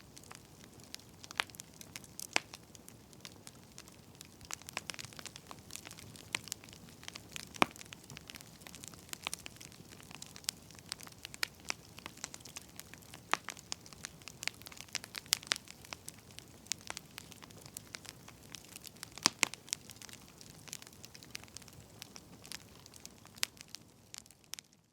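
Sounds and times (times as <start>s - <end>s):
firewood crackling and popping: 0.0s - 24.9s.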